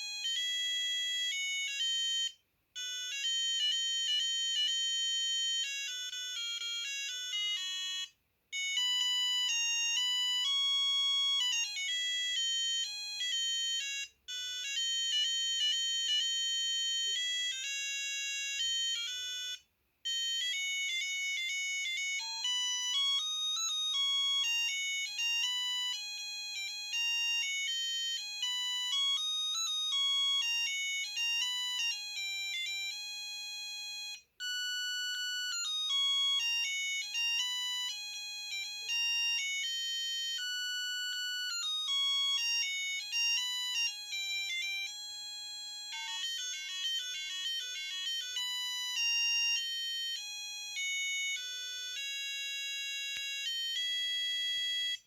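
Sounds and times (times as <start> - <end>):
electronic ringtone melodies: 0.0 - 55.0.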